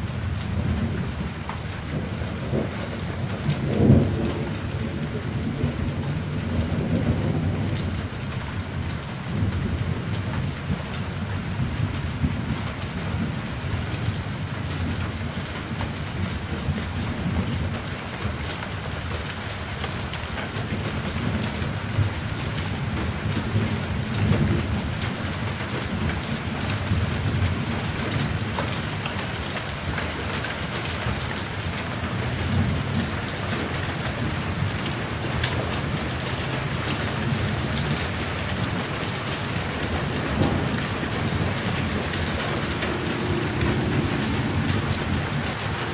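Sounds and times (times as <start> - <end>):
low rumble of thunder: 0.0 - 45.9
steady rain falling: 0.0 - 45.9.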